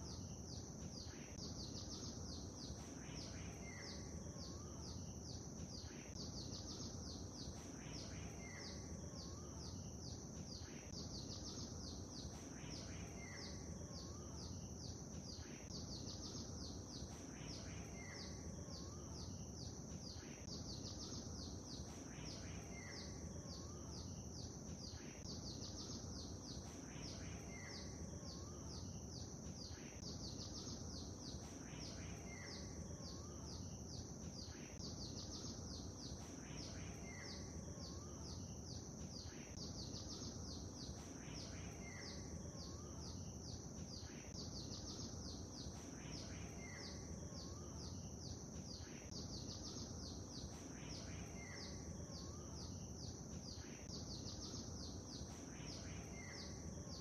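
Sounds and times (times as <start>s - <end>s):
constant high hiss: 0.0s - 57.0s
small birds chirping: 0.0s - 57.0s.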